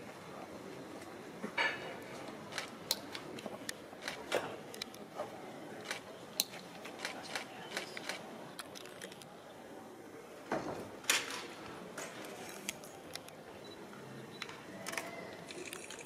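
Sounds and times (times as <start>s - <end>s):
crowd murmur: 0.0s - 16.0s.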